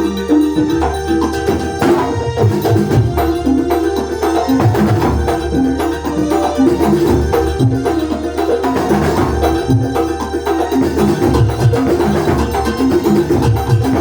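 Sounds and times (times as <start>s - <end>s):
hand drum percussion: 0.0s - 14.0s.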